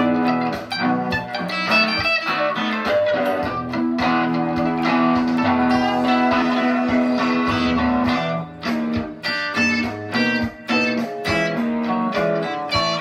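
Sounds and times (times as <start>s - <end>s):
guitar playing blues lick: 0.0s - 13.0s.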